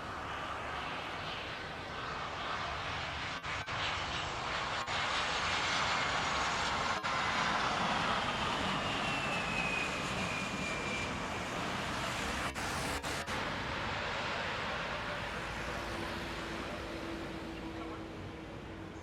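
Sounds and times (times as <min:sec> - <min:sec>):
jet engines passing with whine: 0:00.0 - 0:19.0.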